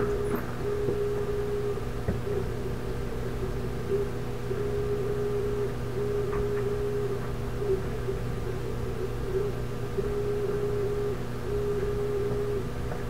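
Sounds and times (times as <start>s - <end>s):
low hum: 0.0s - 13.0s
printer motor whine: 0.0s - 13.0s.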